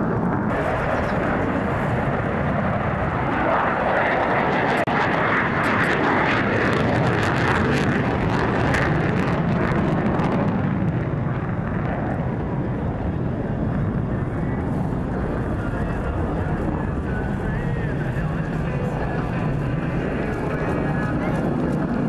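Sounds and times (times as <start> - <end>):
jet engines crackling in afterburner: 0.0 - 22.0.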